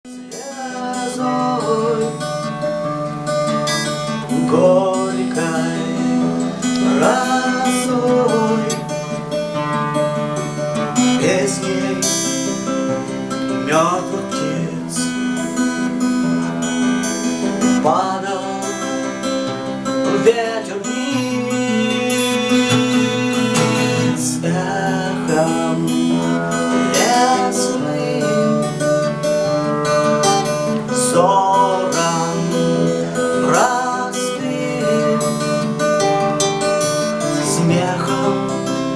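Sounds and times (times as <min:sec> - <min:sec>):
acoustic guitar music: 0:00.0 - 0:38.9.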